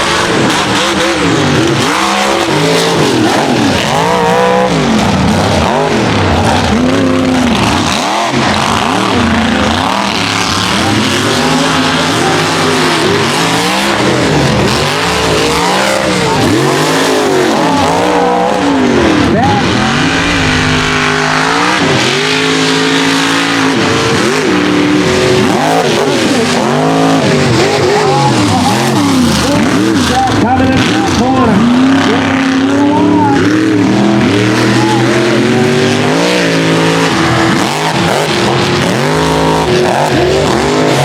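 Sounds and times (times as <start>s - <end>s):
truck engines revving: 0.0s - 41.0s.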